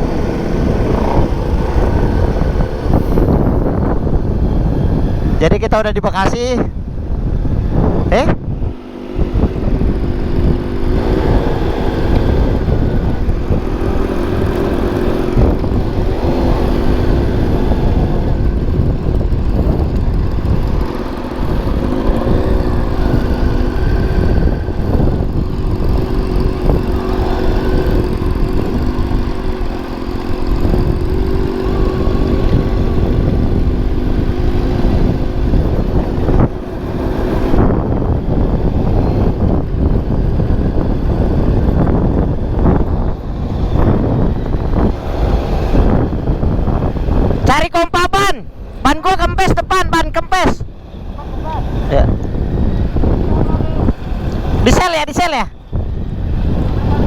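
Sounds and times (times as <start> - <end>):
motorcycle engine running: 0.0 - 47.7, 48.4 - 57.0
wind rumble on microphone: 0.0 - 57.0.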